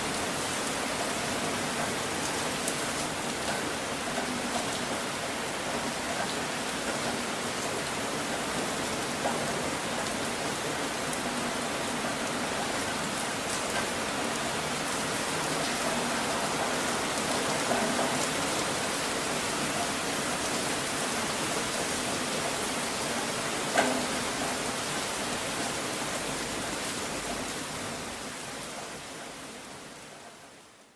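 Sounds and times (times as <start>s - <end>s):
rain noise: 0.0s - 30.9s.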